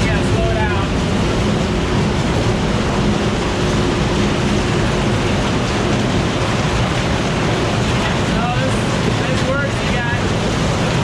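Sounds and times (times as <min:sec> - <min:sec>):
corn picker machinery droning: 0:00.0 - 0:11.0.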